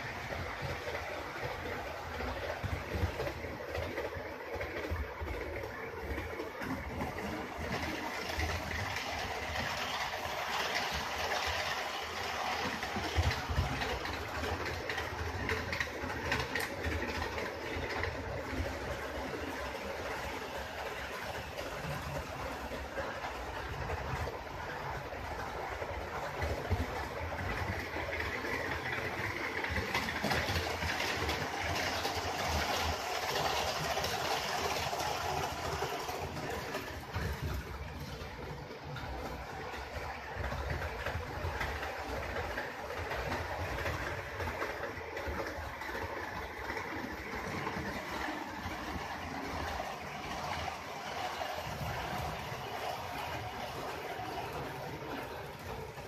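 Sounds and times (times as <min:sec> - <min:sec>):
model train motors whirring: 0:00.0 - 0:56.0
wheels rolling on rails: 0:00.0 - 0:56.0.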